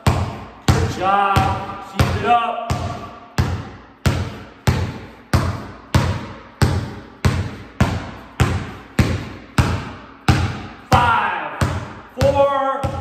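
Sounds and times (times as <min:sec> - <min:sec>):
basketball bouncing on concrete: 0:00.0 - 0:13.0.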